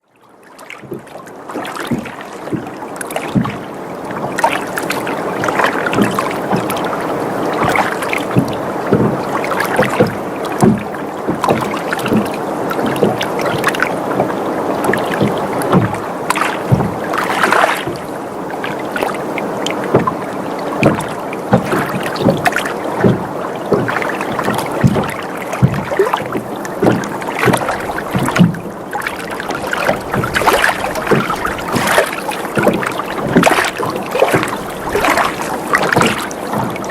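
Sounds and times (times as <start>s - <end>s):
water lapping against boat hull: 0.0s - 36.9s
boat creaking: 0.8s - 36.9s.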